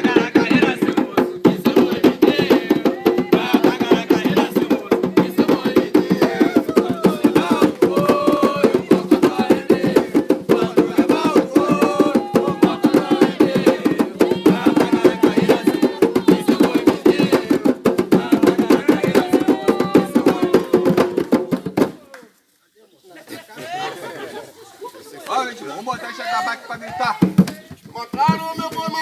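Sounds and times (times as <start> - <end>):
hand drums playing: 0.0 - 22.0, 26.9 - 29.0.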